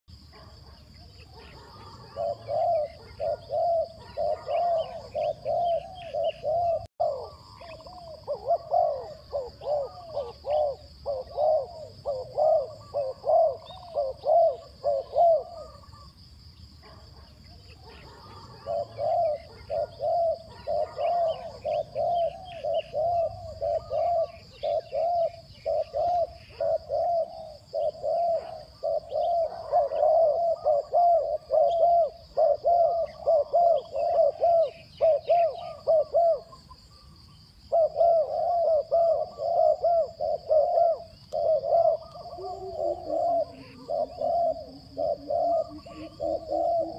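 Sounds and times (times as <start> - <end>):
doves cooing: 0.2 - 16.2, 16.8 - 46.9.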